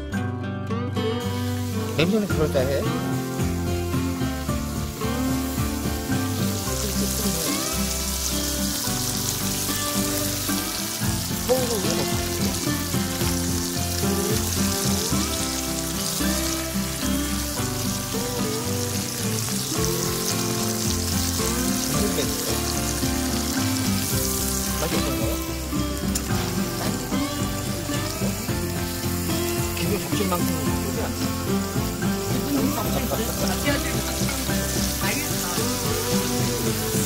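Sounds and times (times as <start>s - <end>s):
background music: 0.0s - 37.0s
beef sizzling in a frying pan: 1.2s - 37.0s.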